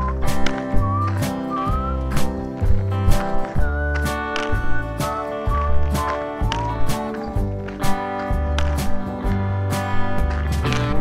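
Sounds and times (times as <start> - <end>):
bass line: 0.0 - 11.0
percussive hits: 0.0 - 11.0
strummed acoustic guitar music: 0.0 - 11.0.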